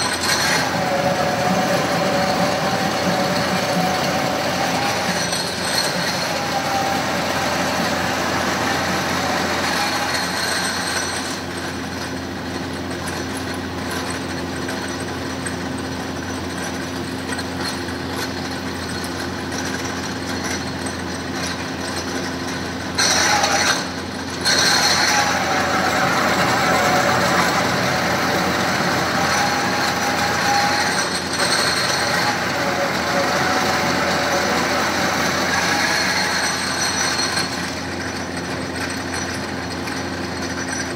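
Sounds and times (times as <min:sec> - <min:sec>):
drill press drilling metal: 0:00.0 - 0:40.9.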